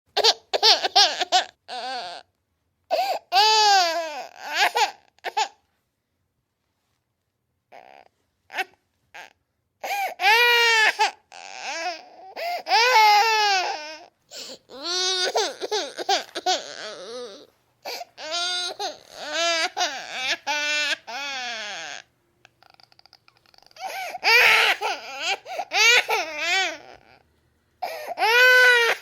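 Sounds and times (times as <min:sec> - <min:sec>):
infant crying: 0:00.2 - 0:02.3, 0:02.9 - 0:05.6, 0:07.7 - 0:27.2, 0:27.8 - 0:29.0.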